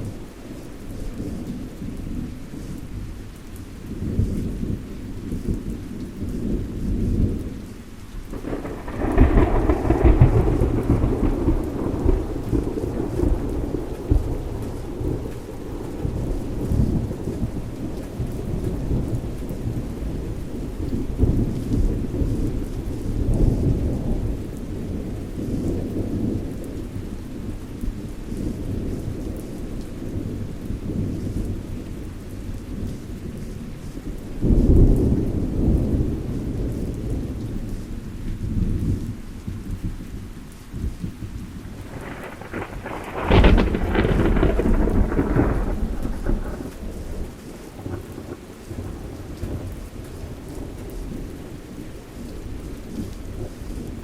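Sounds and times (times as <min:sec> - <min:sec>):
steady rain: 0:00.0 - 0:54.0
low rumbling thunder: 0:03.9 - 0:54.0.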